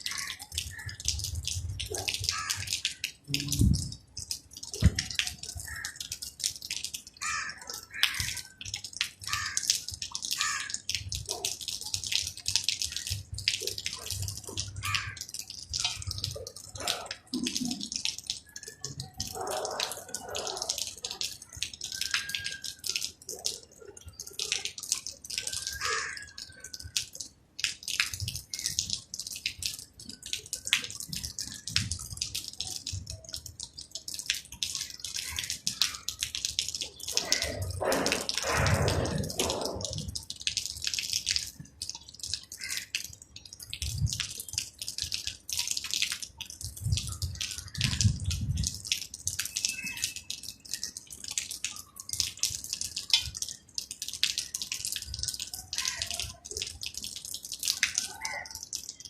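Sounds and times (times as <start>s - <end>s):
rain drops pattering: 0.0s - 59.0s.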